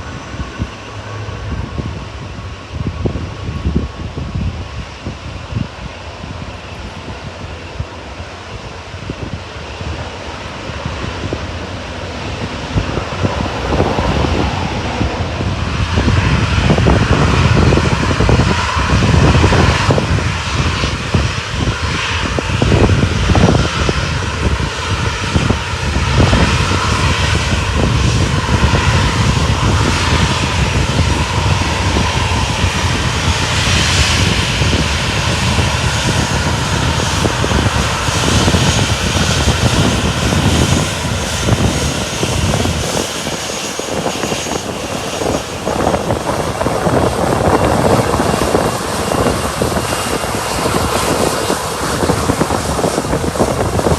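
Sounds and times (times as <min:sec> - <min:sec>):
aircraft engines running loud: 0:00.0 - 0:53.9
wind rumbling on microphone: 0:00.0 - 0:53.9.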